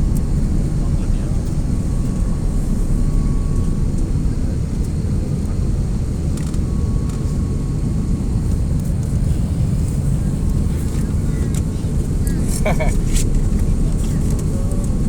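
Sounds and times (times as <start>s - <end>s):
airliner engine and airflow rumble: 0.0s - 15.0s.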